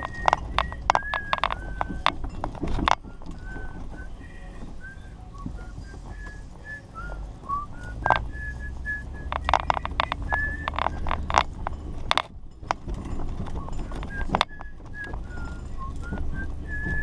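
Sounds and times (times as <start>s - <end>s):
high whistle-like squeaks: 0.0s - 11.5s, 13.5s - 17.0s
engine and road rumble: 0.0s - 17.0s
knocks and rattles in truck cab: 0.0s - 17.0s.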